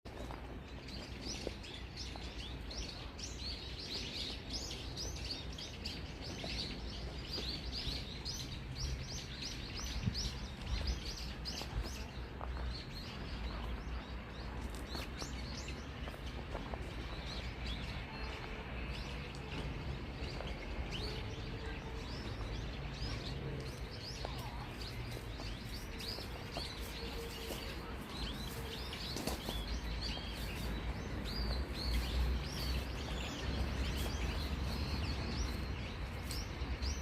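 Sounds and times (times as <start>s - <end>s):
small birds chirping: 0.1s - 37.0s.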